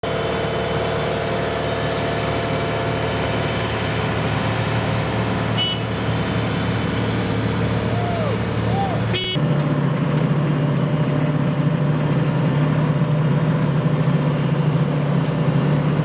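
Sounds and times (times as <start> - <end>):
paving machine engine running: 0.0 - 16.0.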